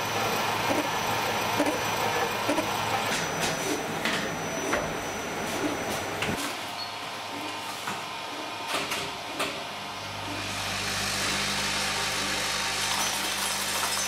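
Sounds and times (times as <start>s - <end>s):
machine humming: 0.0s - 14.0s.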